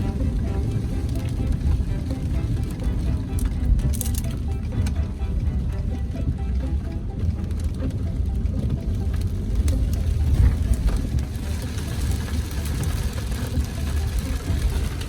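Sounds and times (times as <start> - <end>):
rain ticking on car: 0.0 - 15.0
road and engine rumble inside car: 0.0 - 15.0.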